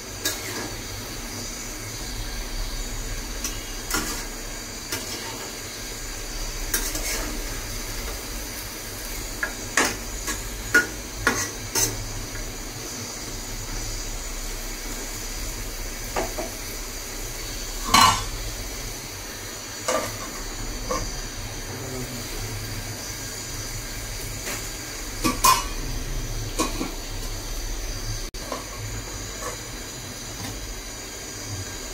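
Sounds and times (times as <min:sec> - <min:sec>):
curry sizzling: 0:00.0 - 0:31.9.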